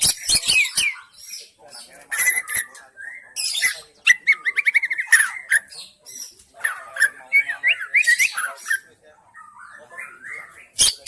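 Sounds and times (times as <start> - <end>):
bird chattering calls: 0.0 - 11.0
rapid bird trill: 0.0 - 11.0.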